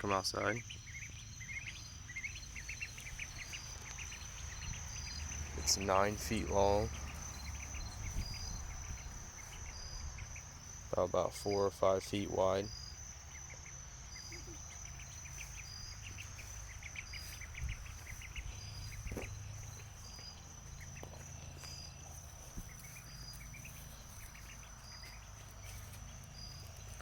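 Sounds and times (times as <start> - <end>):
cricket chirping: 0.0 - 27.0
steady high insect trill: 0.0 - 27.0.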